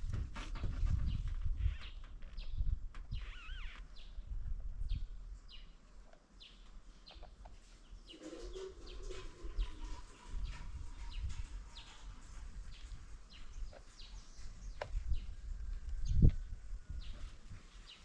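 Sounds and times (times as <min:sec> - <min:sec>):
birds chirping: 0:00.6 - 0:04.3, 0:04.9 - 0:18.0.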